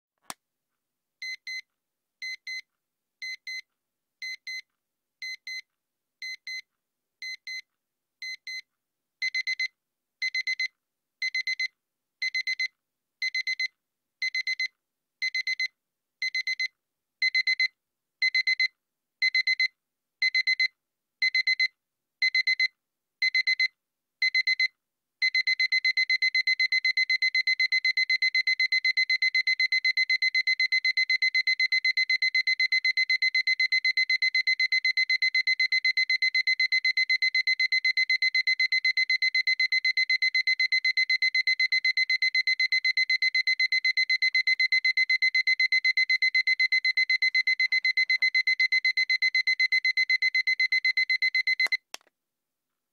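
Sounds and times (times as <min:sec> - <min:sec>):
digital alarm clock beeping: 0:09.2 - 0:51.8.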